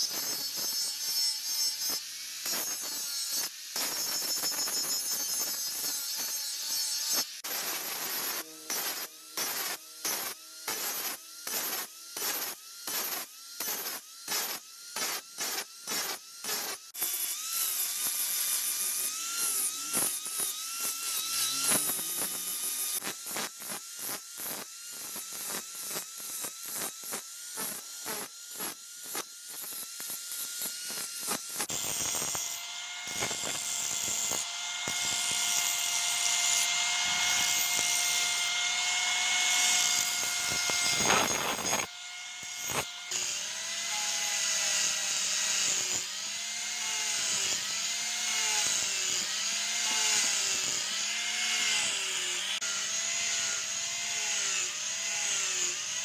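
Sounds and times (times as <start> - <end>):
rhythmic tool strokes: 0.0 - 56.0
small motor whine: 0.0 - 56.0.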